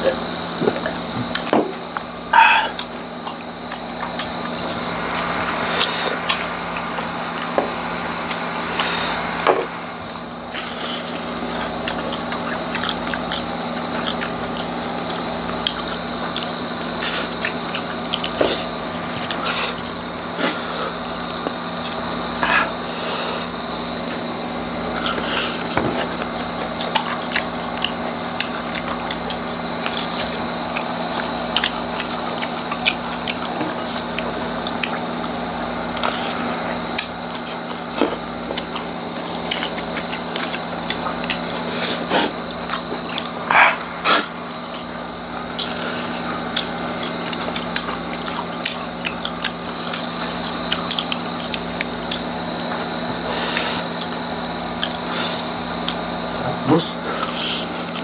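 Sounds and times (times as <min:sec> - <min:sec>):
crunching and chewing food: 0:00.0 - 0:58.0
steady hum: 0:00.0 - 0:58.0.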